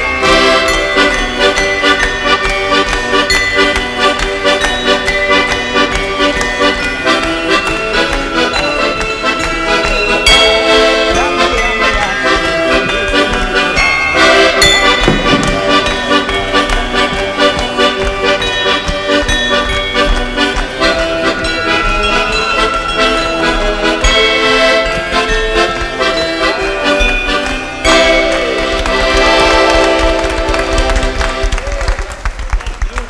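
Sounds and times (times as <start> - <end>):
accordion folk music: 0.0 - 32.2.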